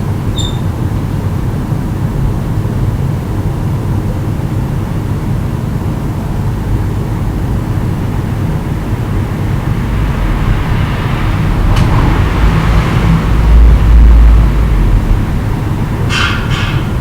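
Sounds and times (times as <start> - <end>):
water heater rumbling: 0.0 - 17.0.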